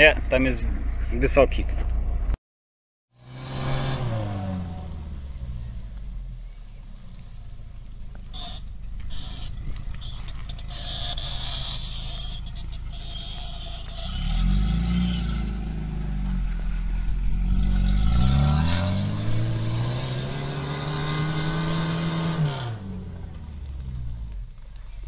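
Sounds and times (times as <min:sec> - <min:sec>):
car engine revving: 0:03.2 - 0:25.0.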